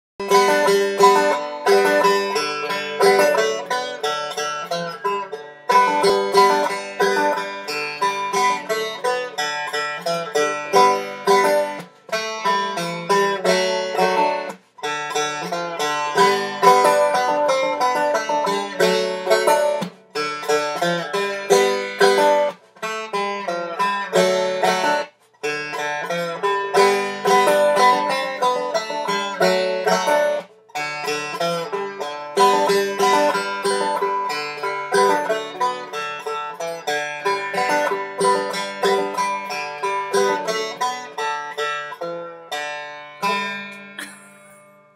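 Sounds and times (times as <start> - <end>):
banjo notes and strums: 0.2 - 44.9.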